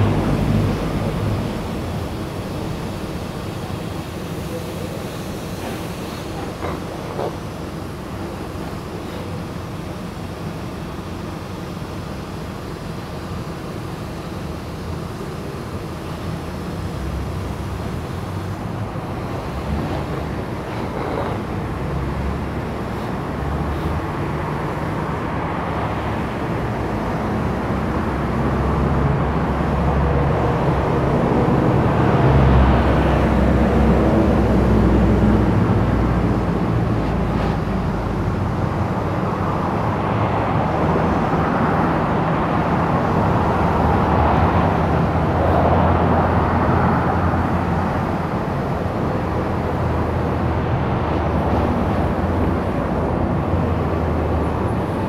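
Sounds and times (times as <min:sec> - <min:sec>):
traffic rumble: 0:00.0 - 0:55.0
vehicles passing close: 0:00.0 - 0:55.0.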